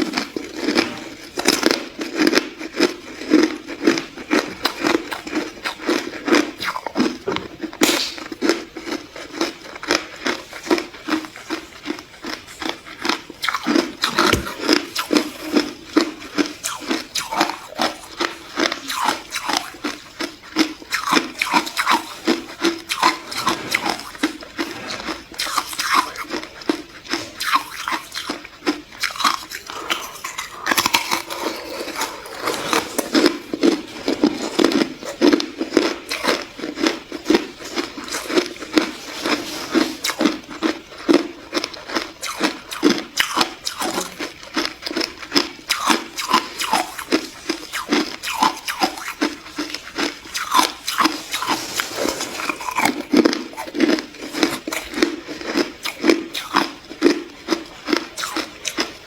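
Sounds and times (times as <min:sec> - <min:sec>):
ice crunching between teeth: 0:00.0 - 0:59.0.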